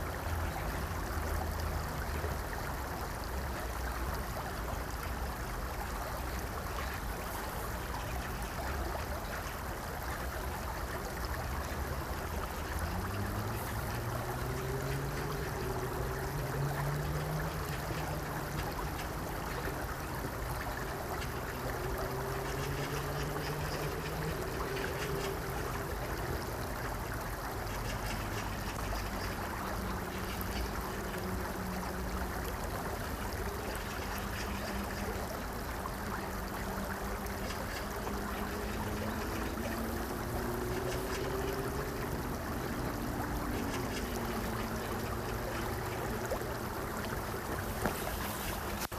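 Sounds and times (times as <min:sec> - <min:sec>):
stream rippling over rocks: 0:00.0 - 0:48.9.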